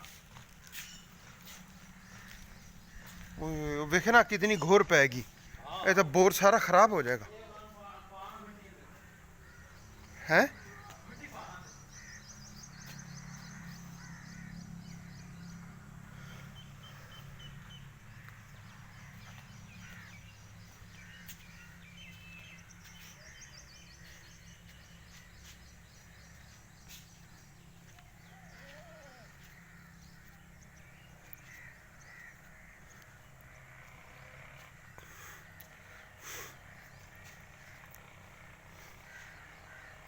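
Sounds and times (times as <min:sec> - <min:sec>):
small birds chirping: 0:00.0 - 0:40.0
crows cawing: 0:00.2 - 0:04.3, 0:05.3 - 0:40.0
steady low hum: 0:07.1 - 0:40.0.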